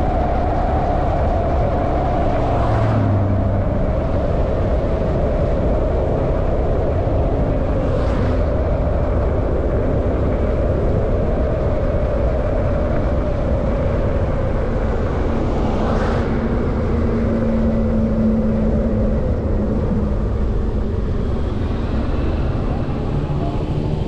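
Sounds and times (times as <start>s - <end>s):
riding noise rush: 0.0s - 24.0s.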